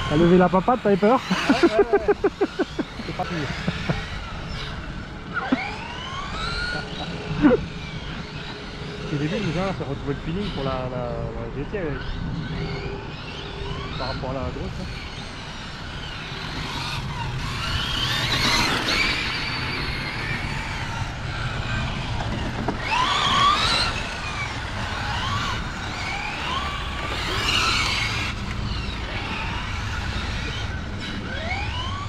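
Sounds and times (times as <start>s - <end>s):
model car motor whine: 0.0s - 32.0s.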